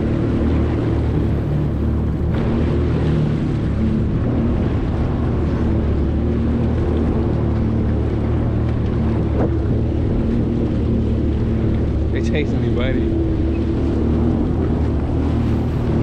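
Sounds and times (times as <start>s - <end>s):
jet ski engine running: 0.0s - 16.0s
water rushing: 0.0s - 16.0s
wind buffeting microphone: 0.0s - 16.0s.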